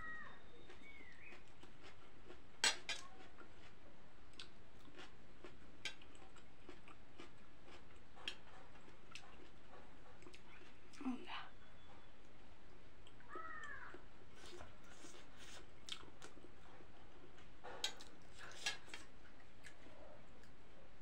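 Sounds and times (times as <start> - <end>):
faint chewing: 0.2 - 21.0.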